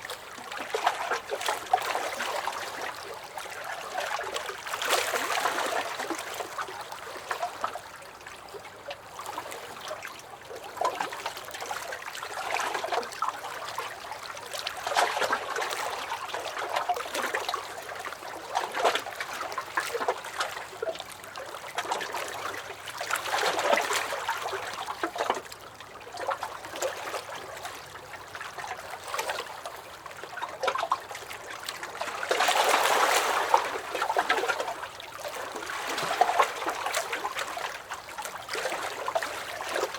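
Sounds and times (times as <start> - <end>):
lake waves lapping against dock: 0.0 - 39.9.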